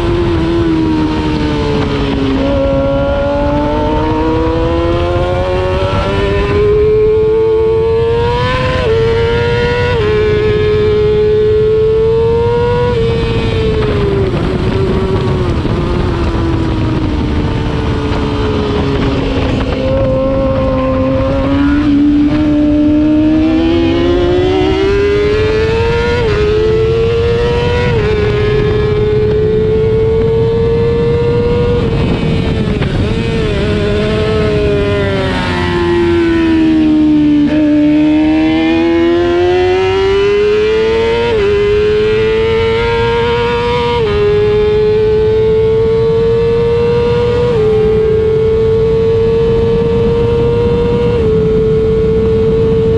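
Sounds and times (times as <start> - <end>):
racing motorcycle engine: 0.0 - 52.9.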